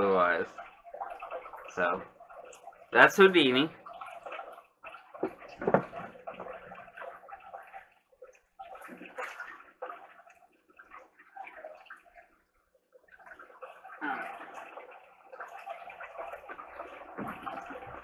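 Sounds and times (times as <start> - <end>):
water sloshing in tank: 0.0 - 18.0.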